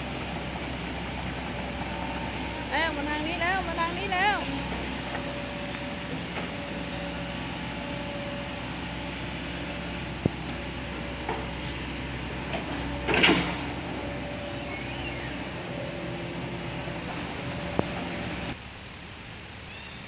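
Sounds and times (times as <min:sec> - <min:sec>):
excavator diesel engine running: 0:00.0 - 0:18.6.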